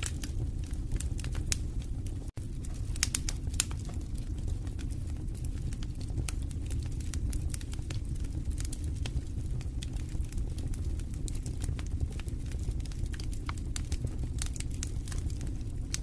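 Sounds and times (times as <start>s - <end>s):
logs crackling and popping: 0.0s - 16.0s
low rumble of flames: 0.0s - 16.0s.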